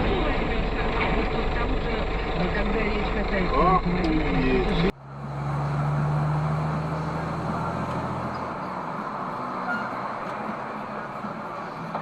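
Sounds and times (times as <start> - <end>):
rushing road noise: 0.0 - 12.0
vehicle engine hum: 0.0 - 12.0.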